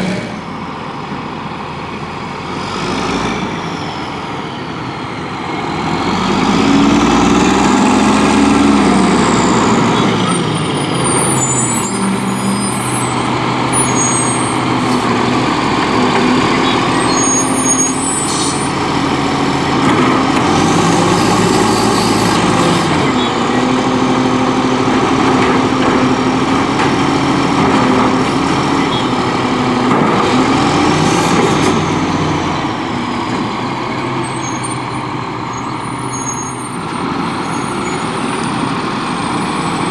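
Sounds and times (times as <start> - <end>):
garbage truck engine revving: 2.0 - 39.9.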